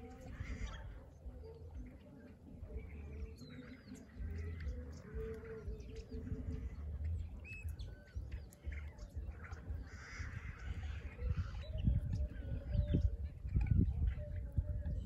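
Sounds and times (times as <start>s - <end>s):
birds chirping and whistling: 0.0s - 15.0s
wind rumbling on microphone: 0.0s - 15.0s.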